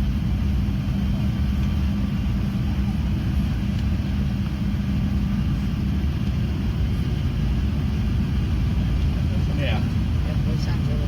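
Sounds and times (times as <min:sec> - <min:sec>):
airliner engines rumbling: 0:00.0 - 0:11.0
steady hum: 0:00.0 - 0:11.0.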